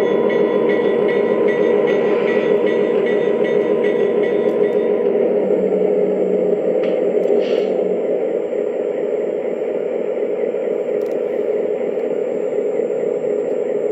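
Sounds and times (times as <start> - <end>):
diesel engine idle sound: 0.0 - 13.9.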